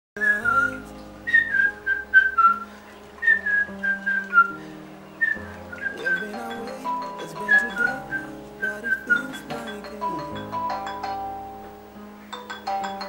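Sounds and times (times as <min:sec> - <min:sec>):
whistled tune: 0:00.2 - 0:11.6
soft sustained backing chords: 0:00.2 - 0:13.0.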